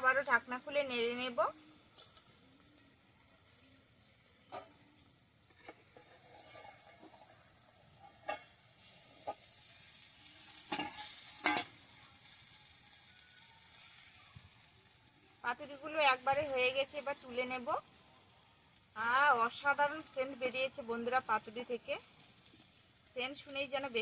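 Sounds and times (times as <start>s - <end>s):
fish sizzling on a griddle: 0.0s - 24.0s.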